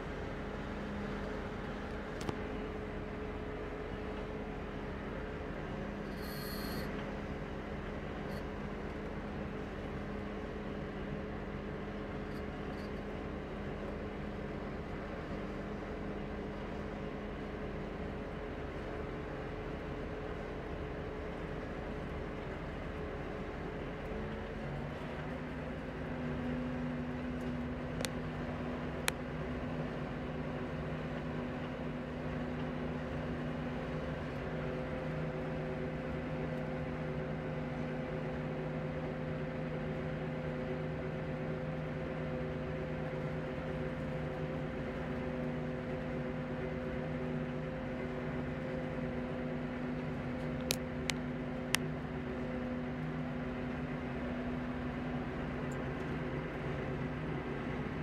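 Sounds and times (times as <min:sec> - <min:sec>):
farm machinery engines droning: 0:00.0 - 0:58.0.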